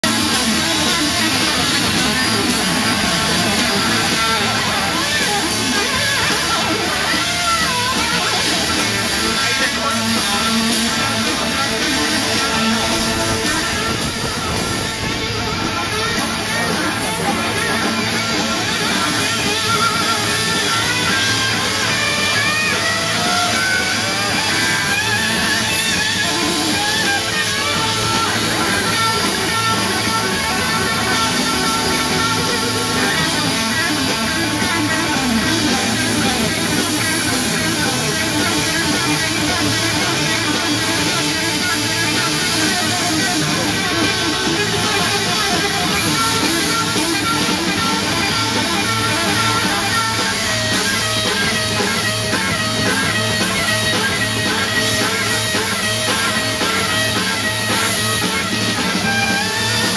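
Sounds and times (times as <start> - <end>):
rock music with drums: 0.0 - 59.9.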